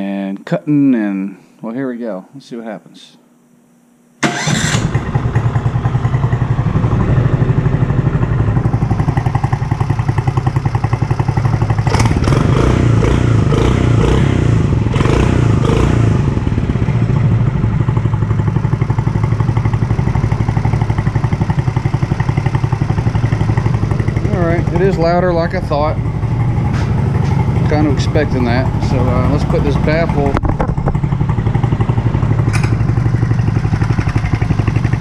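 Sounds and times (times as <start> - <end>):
small engine revving and idling: 4.2 - 35.0.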